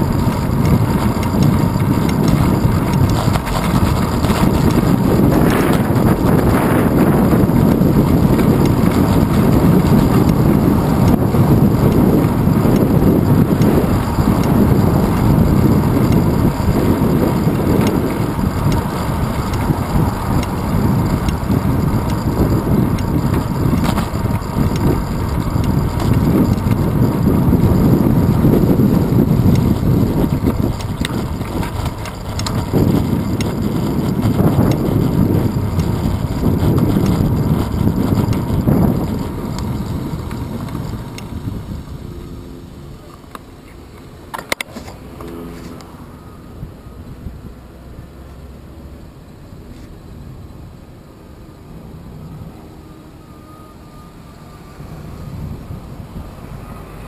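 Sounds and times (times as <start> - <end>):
wind buffeting microphone: 0.0 - 44.6, 54.4 - 57.0
road noise: 0.0 - 57.0.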